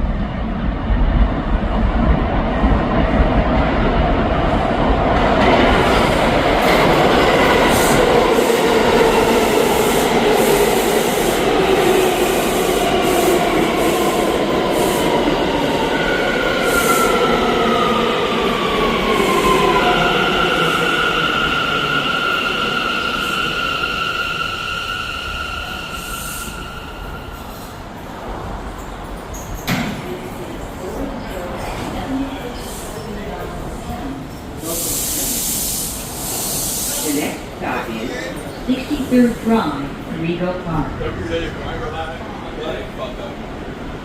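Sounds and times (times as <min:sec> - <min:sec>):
subway train rumbling on rails: 0:00.0 - 0:44.0.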